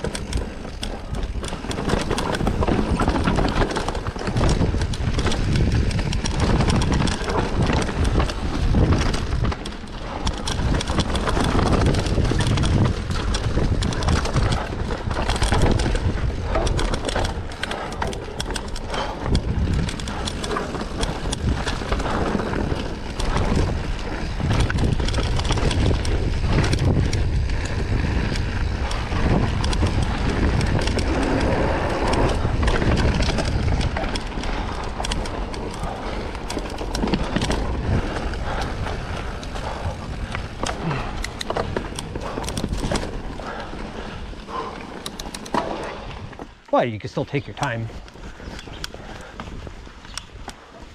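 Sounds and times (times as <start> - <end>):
bike rattling and knocking: 0.0 - 50.9
tyres crunching over dirt: 0.0 - 50.9.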